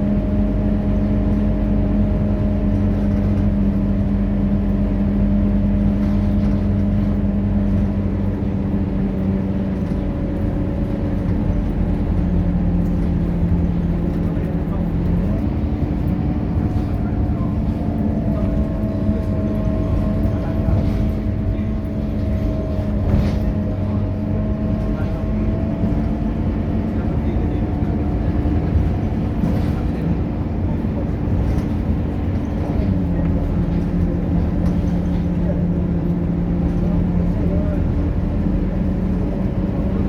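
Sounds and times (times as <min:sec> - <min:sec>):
bus diesel engine drone: 0:00.0 - 0:40.0.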